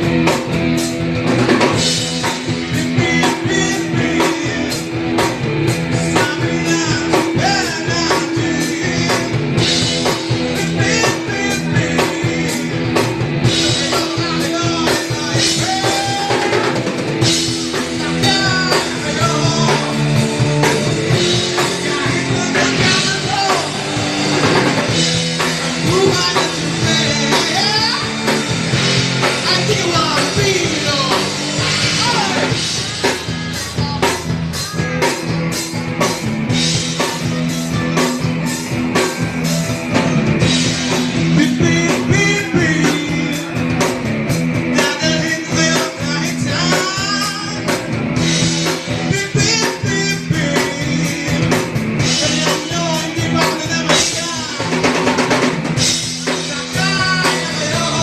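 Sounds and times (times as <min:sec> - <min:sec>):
rock song with singing: 0:00.0 - 0:58.0
steady drum beat: 0:00.0 - 0:58.0.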